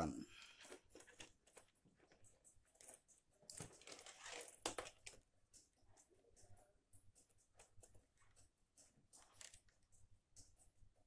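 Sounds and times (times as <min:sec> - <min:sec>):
wires clicking and rustling: 0:00.4 - 0:10.8.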